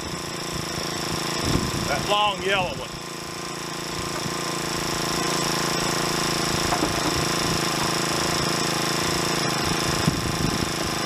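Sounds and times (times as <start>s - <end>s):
motor-driven machine running: 0.0s - 11.0s.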